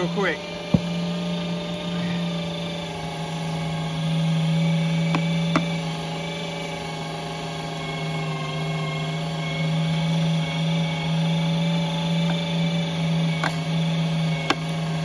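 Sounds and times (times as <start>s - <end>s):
meat grinder motor hum: 0.0s - 15.0s.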